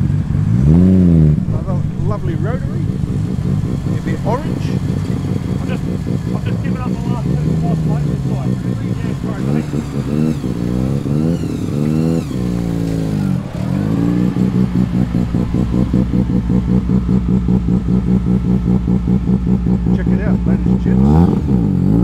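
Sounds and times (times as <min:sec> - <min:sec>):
engine choppy idle: 0:00.0 - 0:22.0
rotary engine revving: 0:00.0 - 0:22.0.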